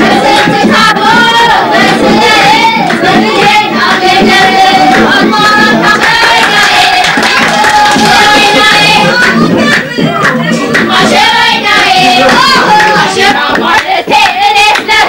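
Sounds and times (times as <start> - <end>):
voices singing: 0.0 - 15.0
hand clapping: 2.1 - 15.0.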